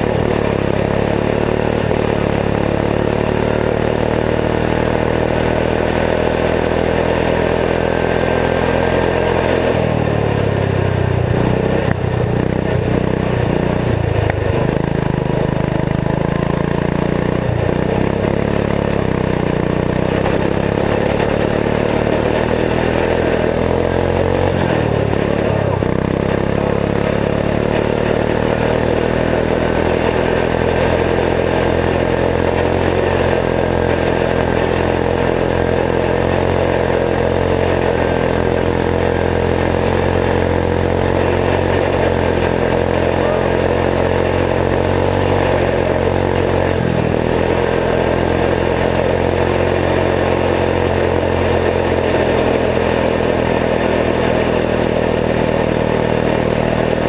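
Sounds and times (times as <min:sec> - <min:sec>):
single-cylinder engine running: 0:00.0 - 0:57.0.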